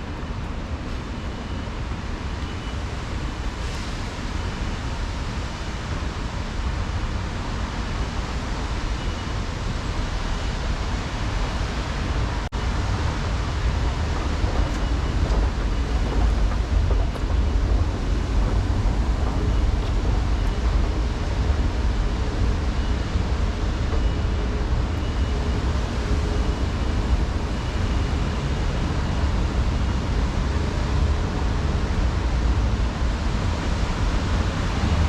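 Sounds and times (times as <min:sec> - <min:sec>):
city traffic rumble and hiss: 0:00.0 - 0:35.0.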